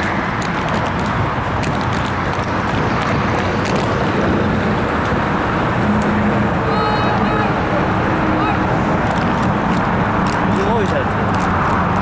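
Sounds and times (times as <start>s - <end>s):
loud rumbling outdoor noise: 0.0s - 12.0s.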